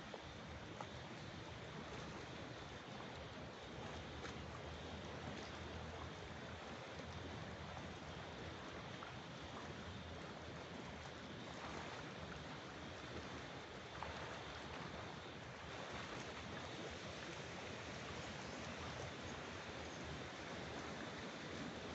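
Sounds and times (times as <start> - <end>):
swimmer splashing: 0.0 - 21.9
water washing and lapping: 0.0 - 21.9.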